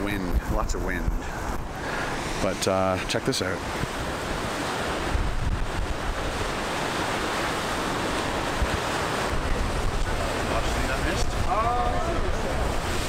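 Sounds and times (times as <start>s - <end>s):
wind buffeting microphone: 0.0s - 13.0s
surf breaking on rocks: 1.6s - 13.0s.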